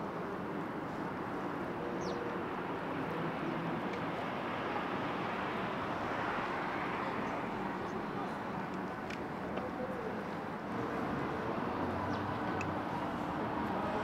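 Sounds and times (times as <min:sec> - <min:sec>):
city traffic hum: 0:00.0 - 0:14.0.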